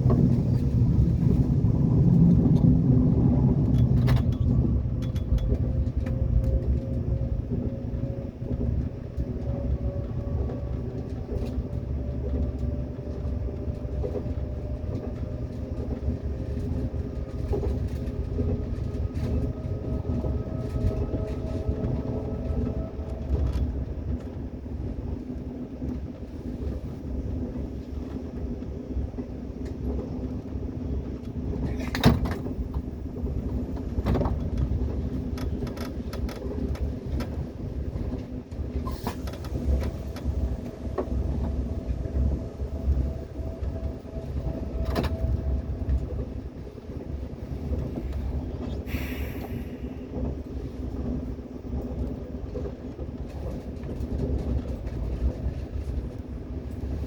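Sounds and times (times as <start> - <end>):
train rumbling with droning hum: 0.0 - 57.0.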